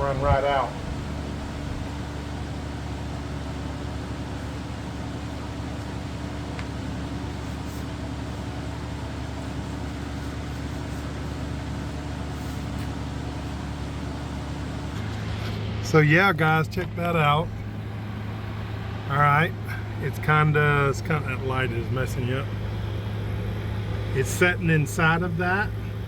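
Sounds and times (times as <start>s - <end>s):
air conditioner humming: 0.0s - 15.1s, 15.8s - 26.0s.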